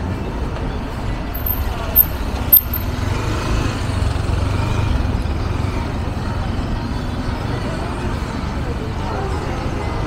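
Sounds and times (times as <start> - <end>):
low rumble of passing vehicles: 0.0 - 10.0.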